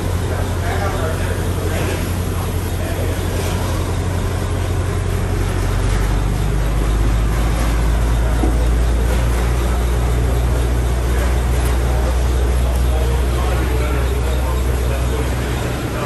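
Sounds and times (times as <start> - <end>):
engine low rumble: 0.0 - 16.0.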